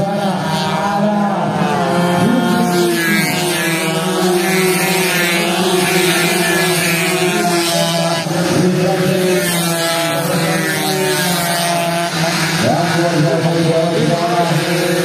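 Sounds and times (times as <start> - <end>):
motorcycles racing at high revs: 0.0 - 15.0.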